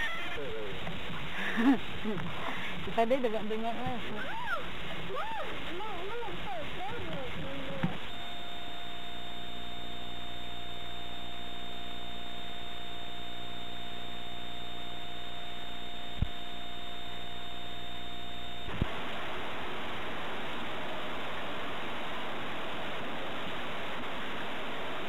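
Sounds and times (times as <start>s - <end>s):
steady hum with thin high tone: 0.0s - 25.0s
tape hiss: 0.0s - 25.0s.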